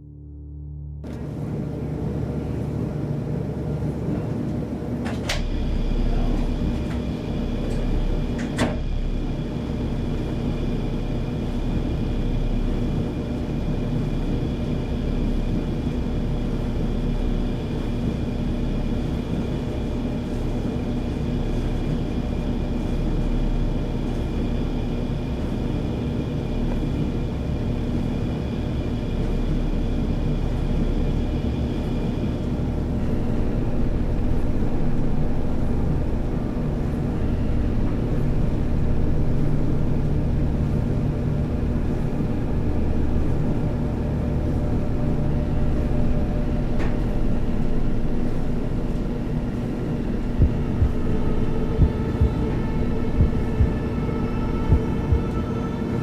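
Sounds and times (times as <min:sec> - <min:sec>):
low mechanical rumble: 0:00.0 - 0:56.0.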